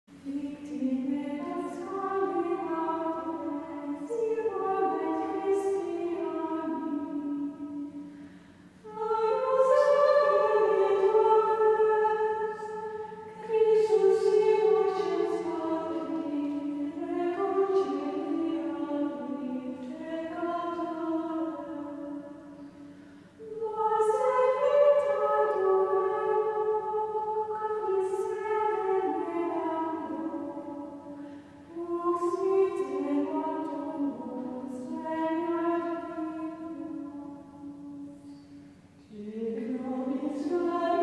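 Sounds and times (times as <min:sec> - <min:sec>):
choir singing held notes: 0:00.1 - 0:41.0.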